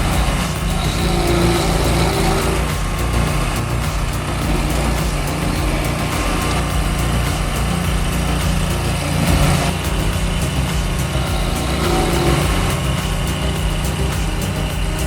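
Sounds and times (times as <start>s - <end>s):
heavy machine engine droning: 0.0s - 15.0s.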